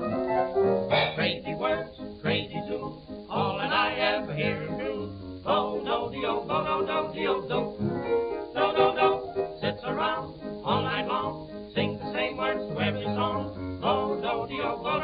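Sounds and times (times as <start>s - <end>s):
dance band jazz record: 0.0s - 15.0s
person singing: 0.9s - 7.8s, 8.5s - 15.0s.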